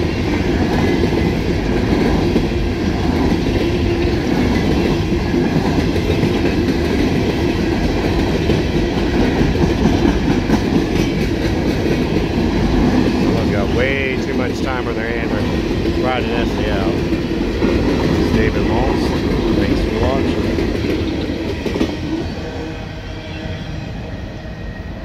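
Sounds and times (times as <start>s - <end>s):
steel train wheels rumbling on rails: 0.0s - 25.0s.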